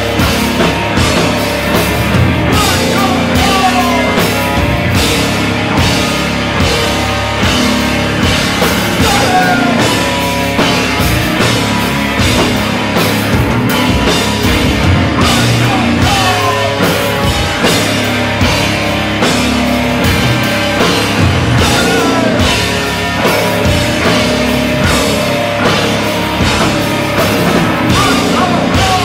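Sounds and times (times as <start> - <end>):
heavy rock band playing: 0.0 - 29.0.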